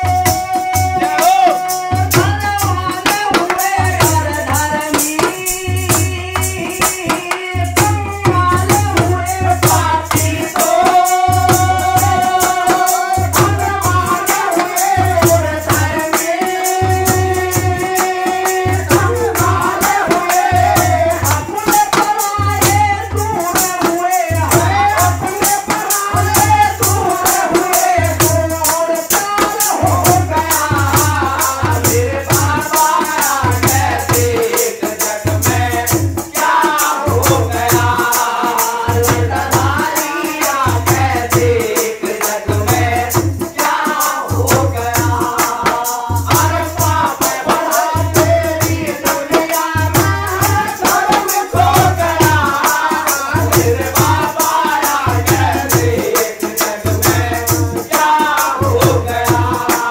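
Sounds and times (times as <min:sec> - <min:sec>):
dholak drum strokes: 0:00.0 - 0:59.9
jingling hand percussion: 0:00.0 - 0:59.9
man singing into microphone: 0:00.0 - 0:59.9.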